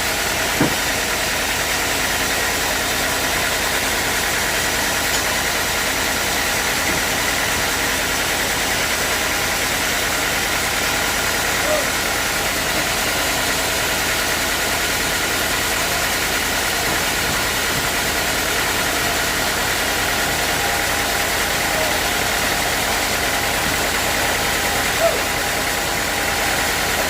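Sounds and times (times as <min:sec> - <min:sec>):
sawmill machinery droning: 0:00.0 - 0:27.0.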